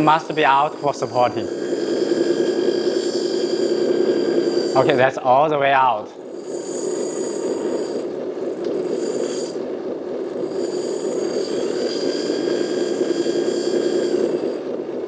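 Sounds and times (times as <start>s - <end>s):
hydraulic pump whirring: 0.0s - 15.0s
thin high whine: 0.0s - 15.0s.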